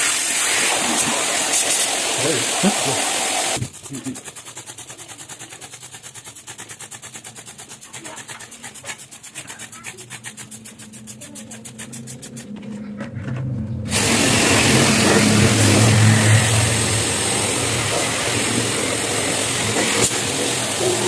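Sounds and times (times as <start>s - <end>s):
loud steady motor noise: 1.5s - 21.0s
rapid rubbing or scraping: 3.6s - 21.0s.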